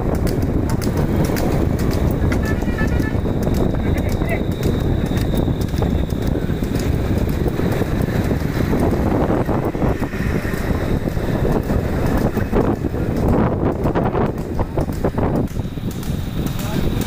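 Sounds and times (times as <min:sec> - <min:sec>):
cart rumbling on road: 0:00.0 - 0:17.0
wind buffeting microphone: 0:00.0 - 0:17.0.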